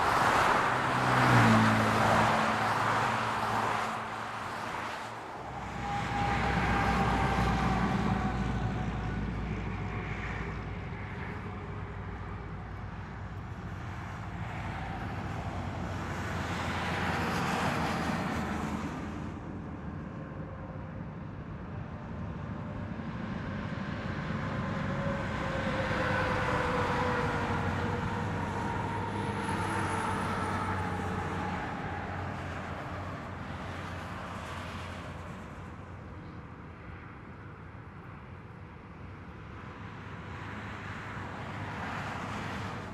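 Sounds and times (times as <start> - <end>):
highway traffic rushing: 0.0 - 42.9
vehicles passing by: 0.0 - 42.9.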